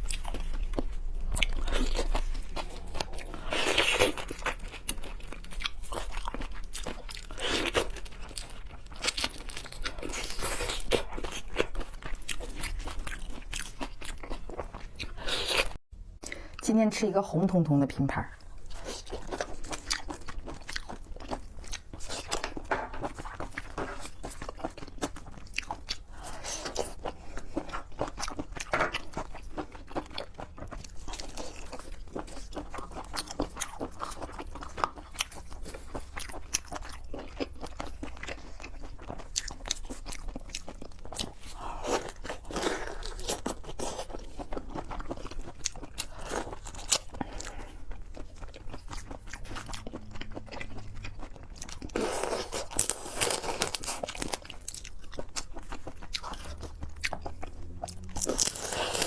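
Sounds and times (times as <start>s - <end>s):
crunchy chewing: 0.0s - 15.8s, 18.4s - 59.0s.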